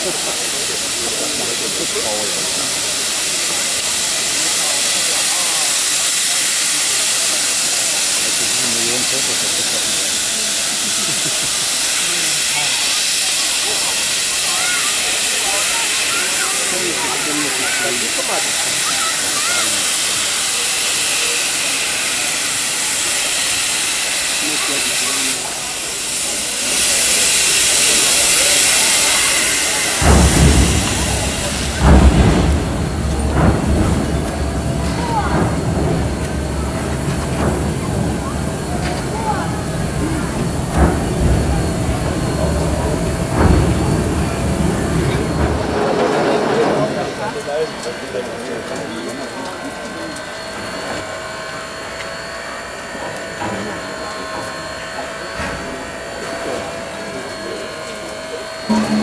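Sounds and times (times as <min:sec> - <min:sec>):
loud steam hiss: 0:00.0 - 0:59.0
steam locomotive exhaust beats: 0:00.0 - 0:59.0.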